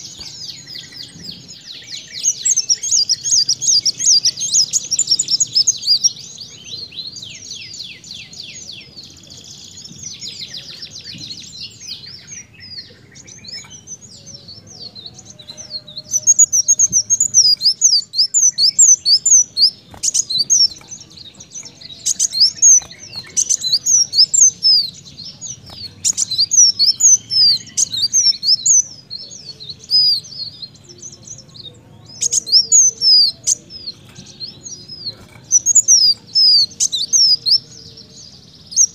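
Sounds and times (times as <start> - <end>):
sunbird singing high twittering song: 0.0 - 38.9.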